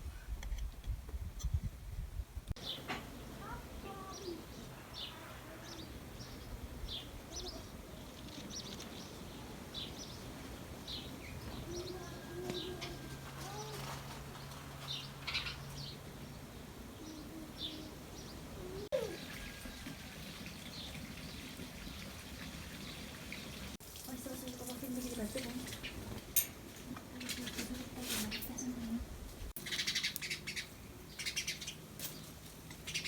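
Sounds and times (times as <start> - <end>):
small birds chirping: 2.6 - 23.8, 24.4 - 26.2, 27.0 - 33.0.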